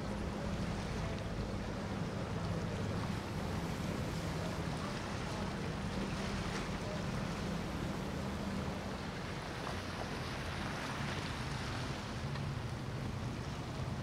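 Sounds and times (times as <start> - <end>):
boat engines droning: 0.0 - 14.0
water noise: 0.0 - 14.0
wind: 0.0 - 14.0.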